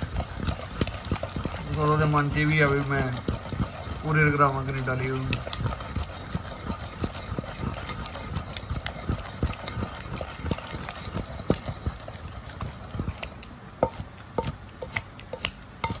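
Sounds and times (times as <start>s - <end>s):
wooden pestle knocking in mortar: 0.0s - 16.0s.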